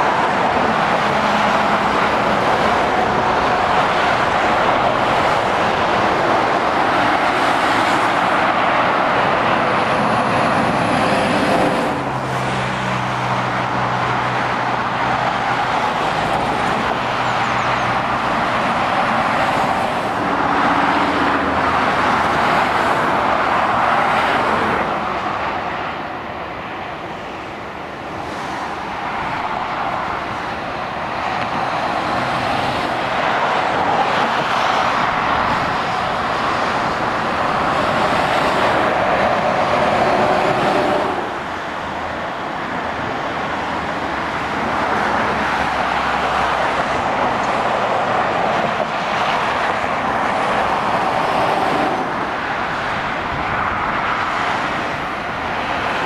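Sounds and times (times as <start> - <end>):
traffic tyres roaring on road: 0.0 - 56.0.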